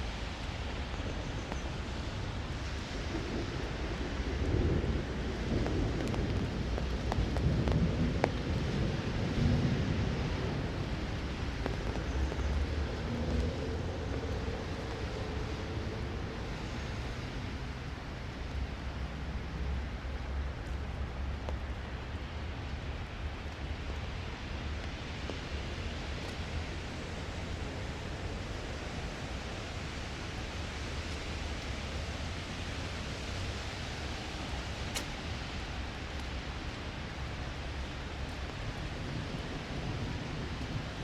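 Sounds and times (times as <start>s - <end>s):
constant low rumble: 0.0s - 41.0s
steady rain hiss: 0.0s - 41.0s.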